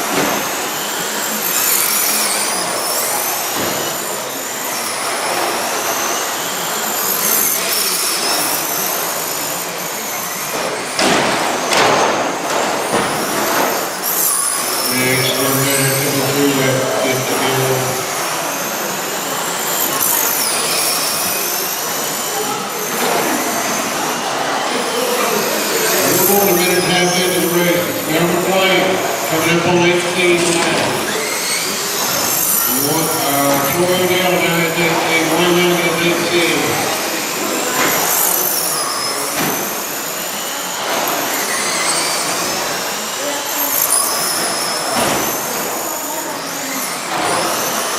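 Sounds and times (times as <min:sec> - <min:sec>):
rc truck motors whining: 0:00.0 - 0:11.7, 0:12.5 - 0:47.9.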